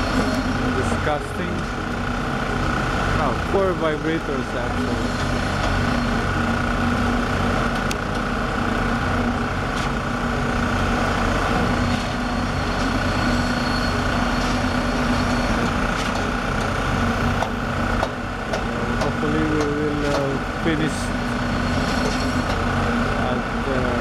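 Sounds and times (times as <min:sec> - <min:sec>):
concrete vibrator motors droning: 0:00.0 - 0:24.0.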